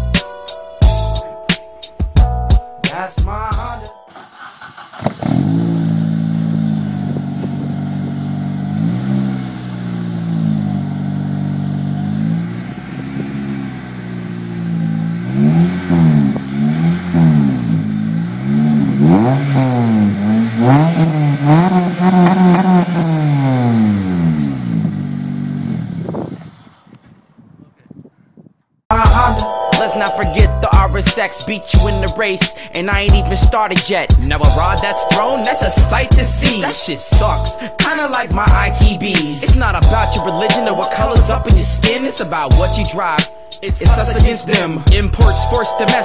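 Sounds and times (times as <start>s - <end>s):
car engine idling and revving: 4.1s - 27.0s, 30.4s - 46.0s.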